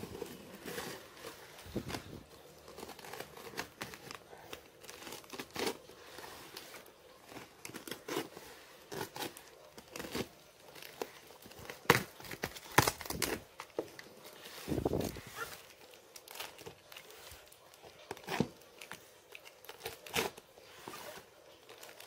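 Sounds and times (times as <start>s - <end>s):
plastic wrap crinkling and tearing: 0.0s - 22.0s.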